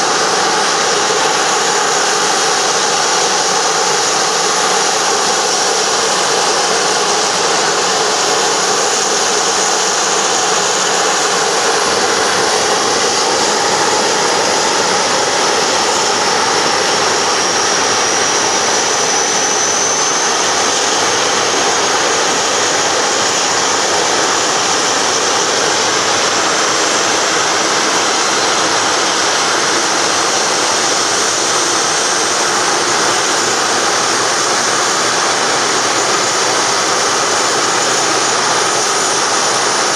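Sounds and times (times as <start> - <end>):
high jet whine: 0.0 - 39.9
jet aircraft engine hiss: 0.0 - 39.9.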